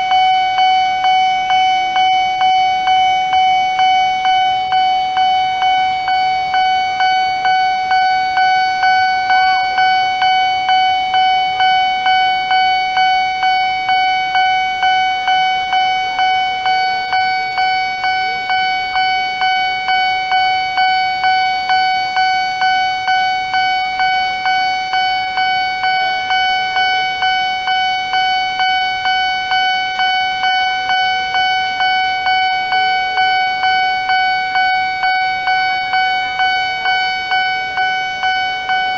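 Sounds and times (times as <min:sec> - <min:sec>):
level crossing alarm bell: 0:00.0 - 0:38.9.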